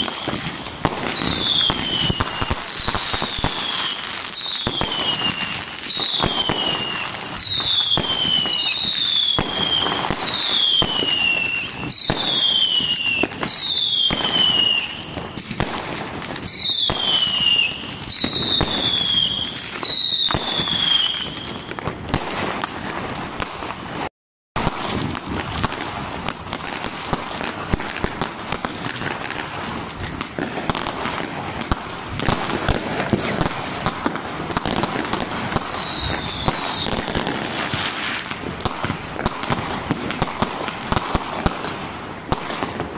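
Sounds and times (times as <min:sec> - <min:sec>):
firework bangs: 0:00.0 - 0:42.9
fireworks crackling and popping: 0:00.0 - 0:42.9
whistling firework shots: 0:00.0 - 0:42.9.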